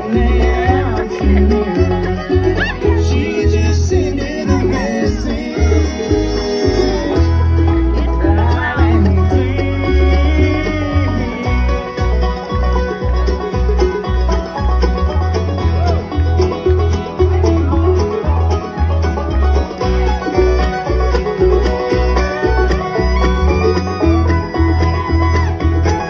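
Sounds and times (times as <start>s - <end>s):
bluegrass band playing: 0.0s - 26.0s.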